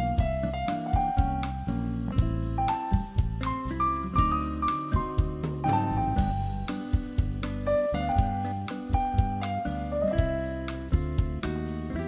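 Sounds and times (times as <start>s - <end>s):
steady drum beat: 0.0s - 11.9s
light jazzy tune with piano: 0.0s - 12.0s.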